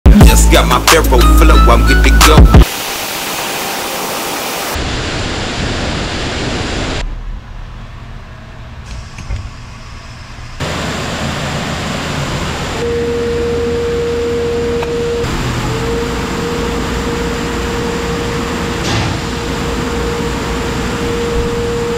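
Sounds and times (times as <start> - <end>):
machinery humming: 0.1 - 21.9.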